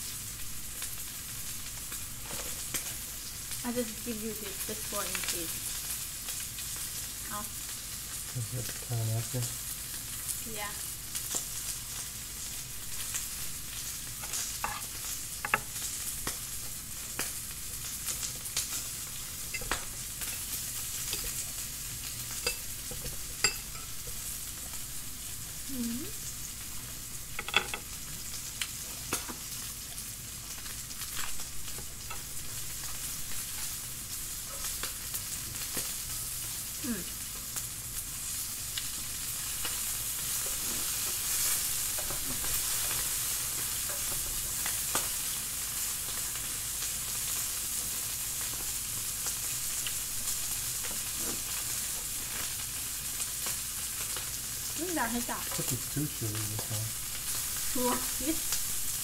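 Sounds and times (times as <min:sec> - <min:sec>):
meat sizzling on grill pan: 0:00.0 - 0:59.0.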